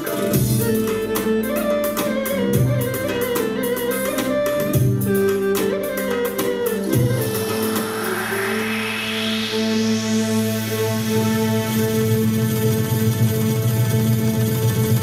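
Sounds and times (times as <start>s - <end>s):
percussion rhythm: 0.0s - 15.0s
synthesizer string melody: 0.0s - 15.0s.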